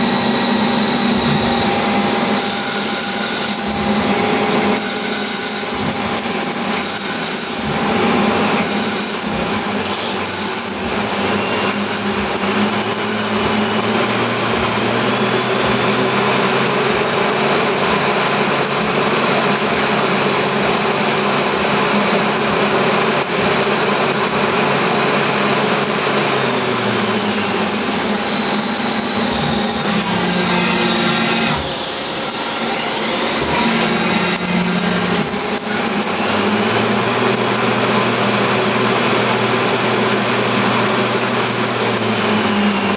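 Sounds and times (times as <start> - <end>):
lathe cutting: 0.0 - 42.9.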